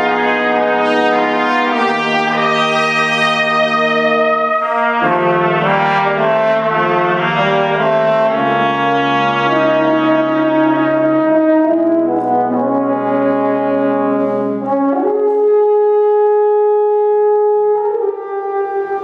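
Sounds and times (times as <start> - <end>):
brass quintet playing slow chords: 0.0 - 19.0.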